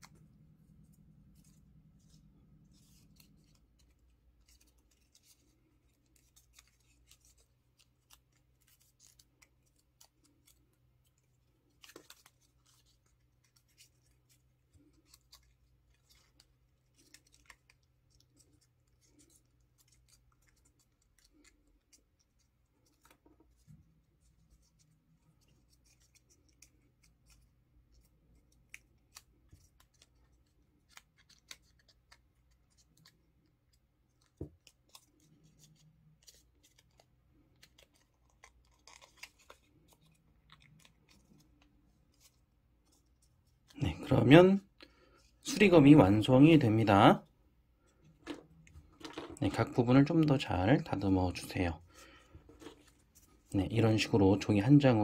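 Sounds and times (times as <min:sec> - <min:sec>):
paper crinkling and rustling: 0:00.0 - 0:44.5, 0:47.8 - 0:54.2
low room hum: 0:00.0 - 0:55.0.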